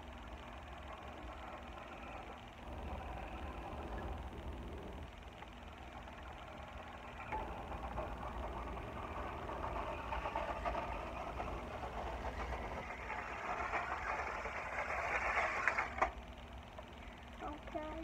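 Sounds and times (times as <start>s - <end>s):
toy car electric motor whirring: 0.0s - 5.2s, 5.8s - 16.2s.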